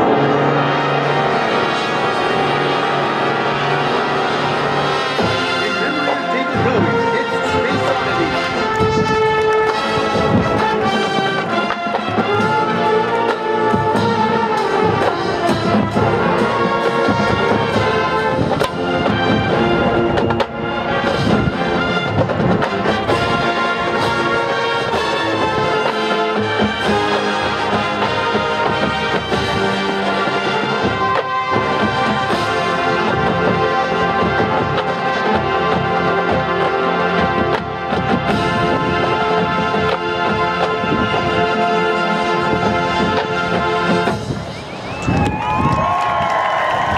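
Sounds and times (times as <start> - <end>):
brass sustained chords: 0.0 - 44.4.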